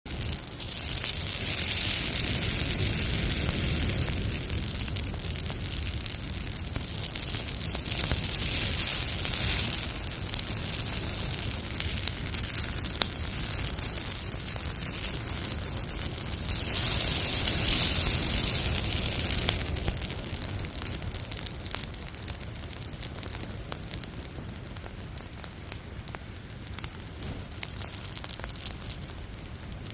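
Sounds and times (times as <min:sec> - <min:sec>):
pine needles crackling in fire: 0:00.1 - 0:29.9.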